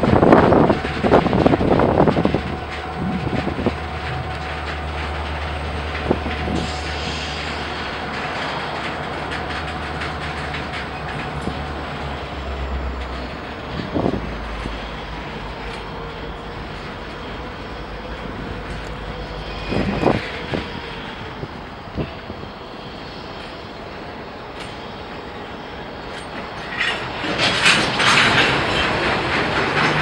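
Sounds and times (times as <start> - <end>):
diesel locomotive engine rumbling: 0.0 - 30.0
rail cars clanking: 0.0 - 30.0.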